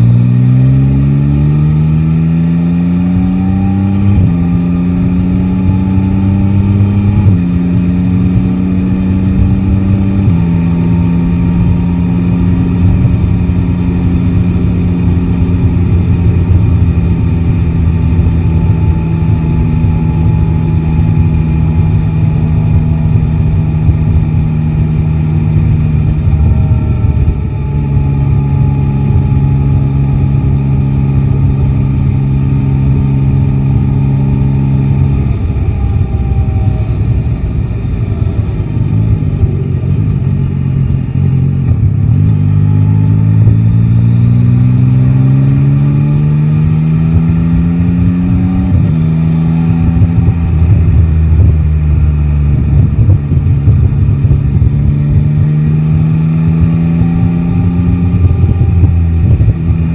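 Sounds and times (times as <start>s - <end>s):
motorcycle engine accelerating: 0.0s - 59.9s
road rumble: 0.0s - 59.9s
wind: 0.0s - 59.9s.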